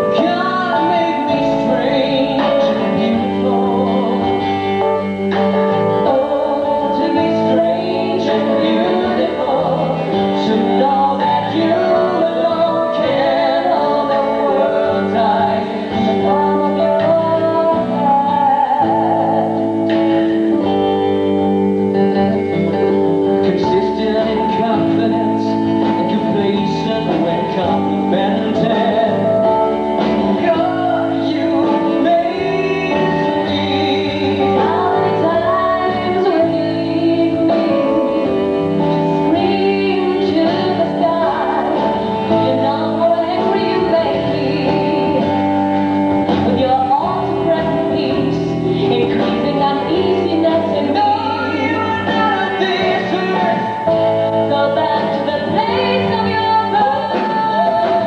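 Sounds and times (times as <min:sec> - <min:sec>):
guitar-led band: 0:00.0 - 0:58.0
man and woman singing duet: 0:00.0 - 0:58.0.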